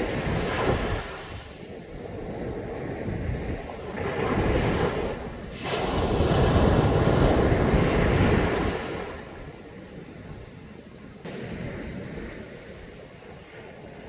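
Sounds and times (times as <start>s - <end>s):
sea waves breaking on beach: 0.0s - 14.0s.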